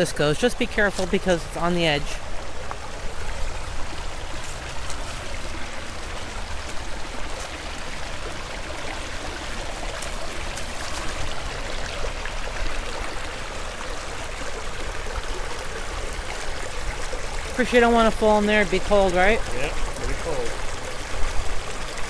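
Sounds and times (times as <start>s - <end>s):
creek water running over rocks: 0.0s - 22.0s.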